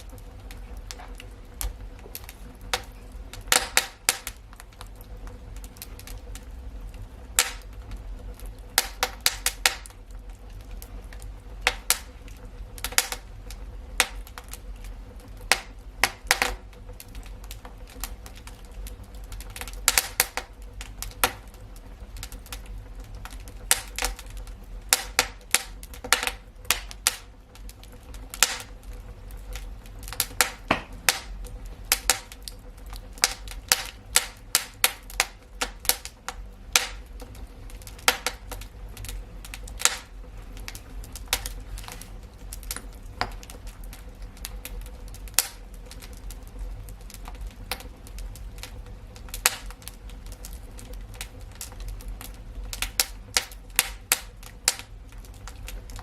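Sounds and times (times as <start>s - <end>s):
low rumble of burning fire: 0.0s - 56.0s
wood fire crackling and popping: 0.0s - 56.0s.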